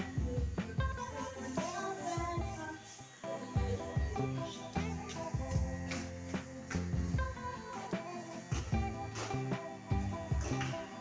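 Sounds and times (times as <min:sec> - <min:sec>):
background music with bass and melody: 0:00.0 - 0:02.7, 0:03.3 - 0:11.0.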